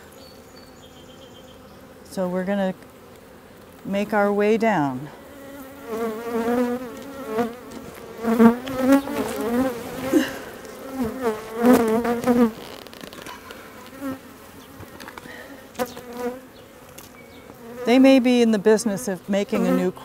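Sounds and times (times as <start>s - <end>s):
honey bees buzzing: 0.0s - 20.0s.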